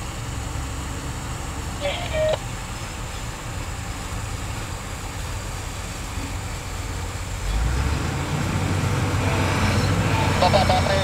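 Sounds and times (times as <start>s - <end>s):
diesel machinery rumbling: 0.0s - 11.0s.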